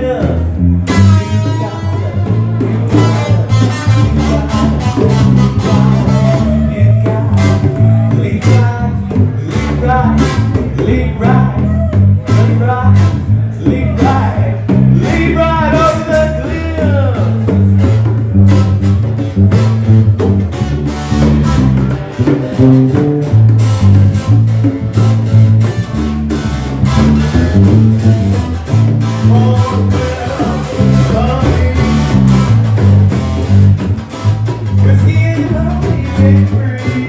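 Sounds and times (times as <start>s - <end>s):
guitar picking a riff: 0.0s - 37.0s
plucked bass notes: 0.0s - 37.0s
hand drum beat: 0.1s - 37.0s.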